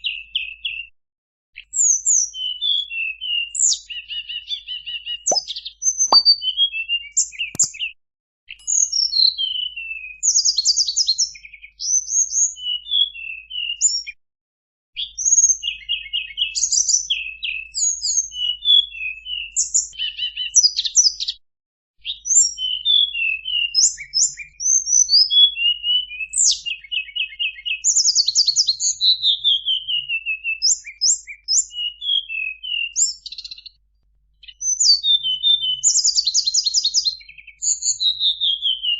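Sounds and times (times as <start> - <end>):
songbird singing trills and whistles: 1.6 - 7.8, 8.6 - 14.1, 15.0 - 21.3, 22.0 - 33.8, 34.4 - 38.9.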